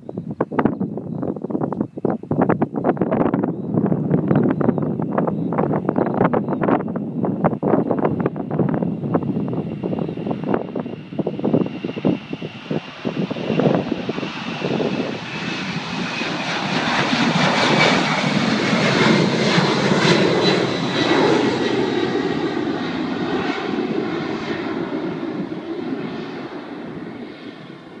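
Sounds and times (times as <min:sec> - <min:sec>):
jet engine roar with high whine: 0:00.0 - 0:28.0.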